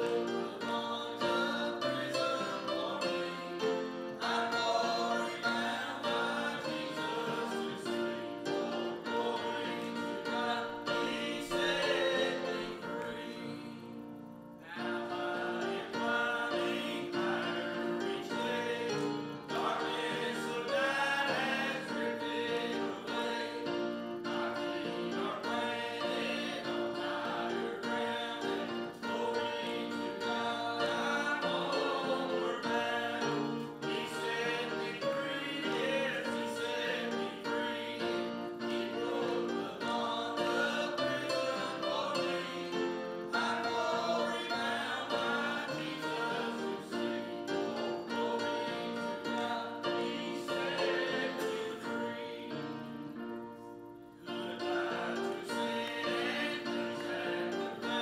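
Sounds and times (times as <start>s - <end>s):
grand piano accompaniment: 0.0s - 58.0s
people singing a hymn: 0.0s - 58.0s.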